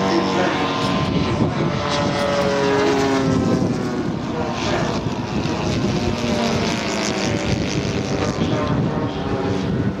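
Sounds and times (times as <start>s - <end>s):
model plane propeller engines: 0.0s - 10.0s.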